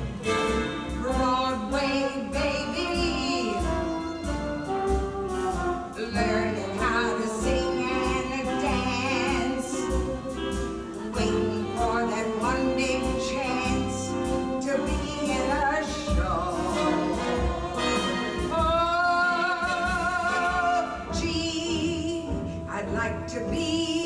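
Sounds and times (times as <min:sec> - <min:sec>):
pit band playing: 0:00.0 - 0:24.0
woman singing show tune: 0:01.0 - 0:04.1, 0:06.0 - 0:10.0, 0:11.0 - 0:24.0.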